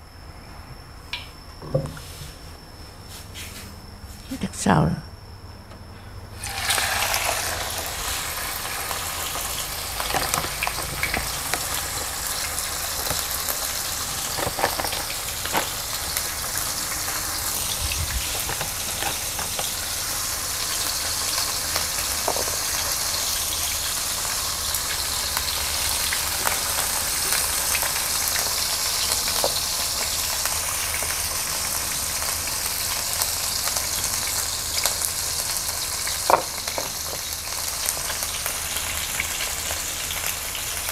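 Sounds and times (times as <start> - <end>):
chicken sizzling in hot oil: 6.4 - 40.9.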